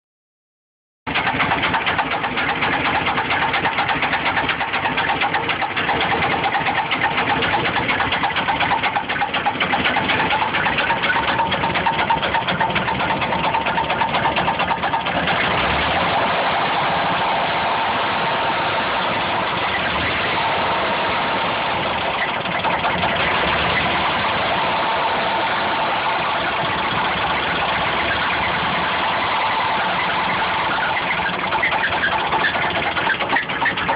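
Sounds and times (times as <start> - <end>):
car engine idling with clatter: 1.1 - 33.9.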